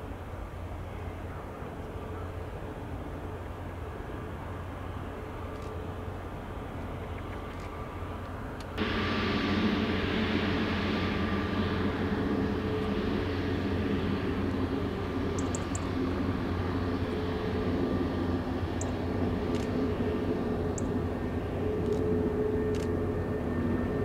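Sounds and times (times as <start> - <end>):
airliner engines running: 0.0 - 24.0.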